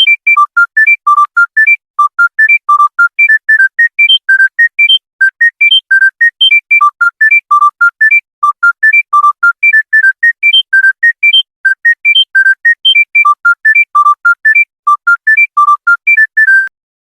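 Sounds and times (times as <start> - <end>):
phone ringtone electronic beeps: 0.0 - 16.8.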